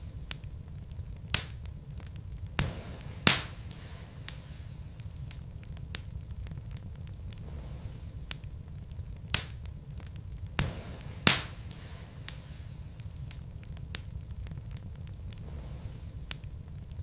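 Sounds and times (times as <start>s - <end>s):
logs crackling and popping: 0.0s - 17.0s
low rumble of fire: 0.0s - 17.0s.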